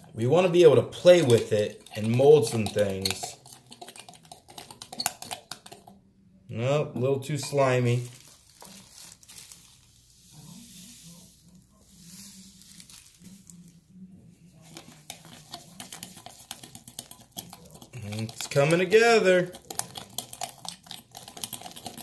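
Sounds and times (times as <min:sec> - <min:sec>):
sand mixture stirred in a bowl: 0:00.0 - 0:05.5, 0:07.2 - 0:13.8, 0:14.5 - 0:22.0.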